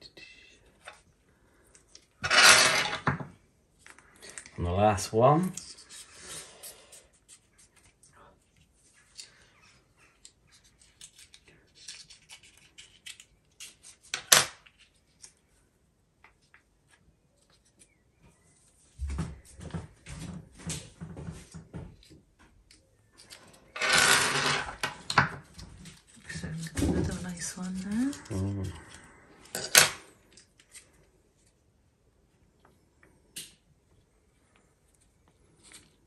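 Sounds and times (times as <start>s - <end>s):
rubbing and rustling of handling: 5.2s - 36.0s.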